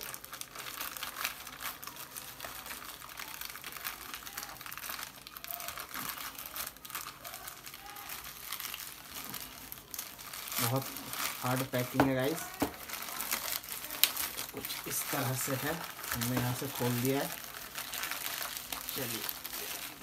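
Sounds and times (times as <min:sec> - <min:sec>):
plastic mailer bag crinkling: 0:00.0 - 0:20.0.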